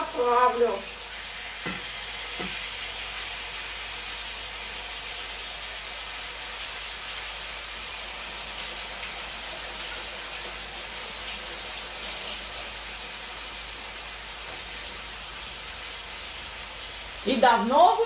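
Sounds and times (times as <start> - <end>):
chicken sizzling in a pan: 0.0 - 18.0.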